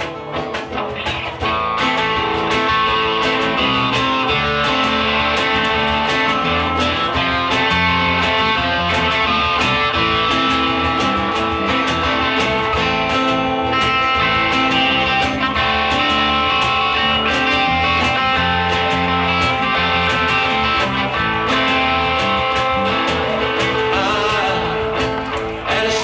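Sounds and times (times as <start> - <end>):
live band playing: 0.0 - 26.0
strummed guitars: 0.0 - 26.0.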